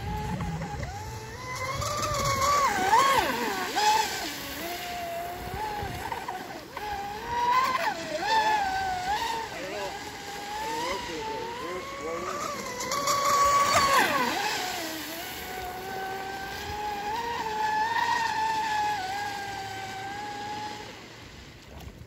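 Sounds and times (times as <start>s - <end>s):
rc boat motor whine: 0.0s - 22.0s.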